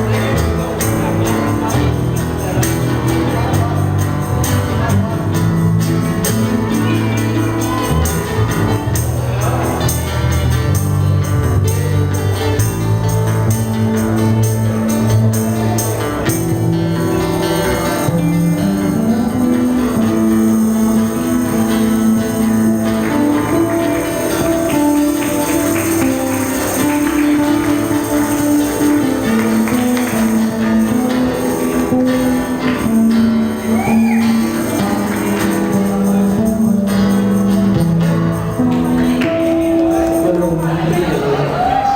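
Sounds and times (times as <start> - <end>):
acoustic guitars: 0.0 - 41.9
cajon beat: 0.0 - 41.9.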